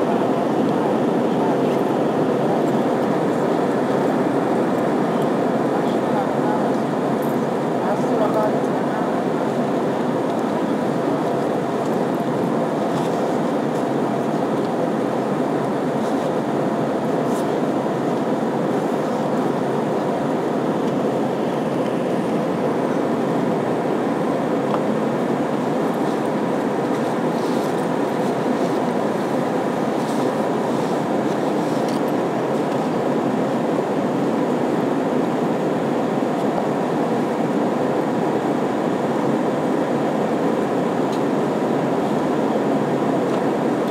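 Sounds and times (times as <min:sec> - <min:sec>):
jet engine roar in cabin: 0:00.0 - 0:43.9
rushing airflow: 0:00.0 - 0:43.9.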